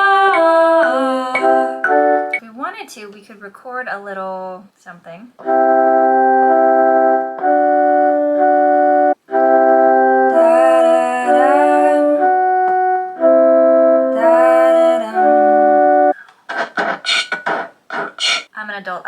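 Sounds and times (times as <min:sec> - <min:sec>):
electronic keyboard organ chords: 0:00.0 - 0:02.4, 0:05.4 - 0:18.5.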